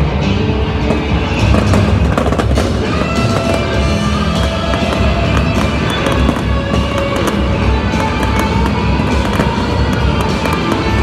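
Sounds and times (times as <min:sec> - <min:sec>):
loud music: 0:00.0 - 0:11.0
fireworks bangs and crackles: 0:00.7 - 0:11.0.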